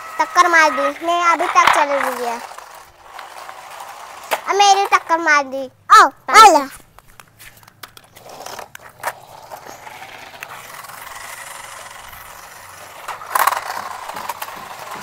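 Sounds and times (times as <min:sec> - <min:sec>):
toy car motors whirring: 0:00.0 - 0:05.6, 0:07.6 - 0:15.0.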